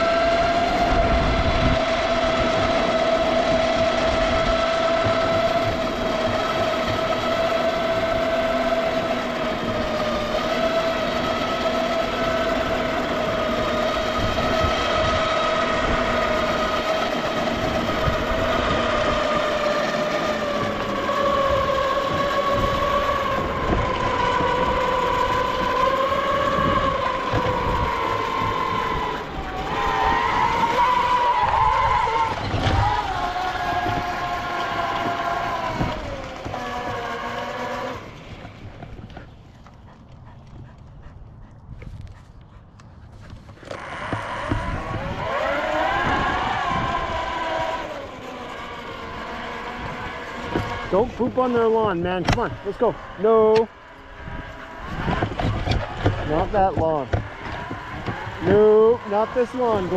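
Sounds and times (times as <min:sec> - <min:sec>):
electric skateboard motor whine: 0:00.0 - 0:40.3, 0:43.1 - 0:59.9
tyres rumbling on asphalt: 0:00.0 - 0:59.9.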